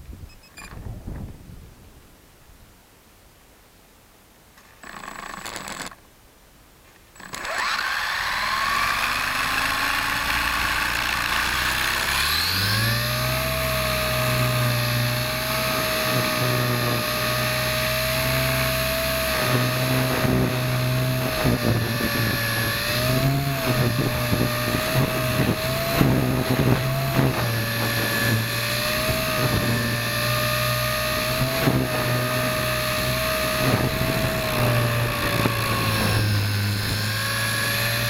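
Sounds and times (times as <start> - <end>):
toy helicopter motor whirring: 4.8 - 6.0, 7.2 - 38.0.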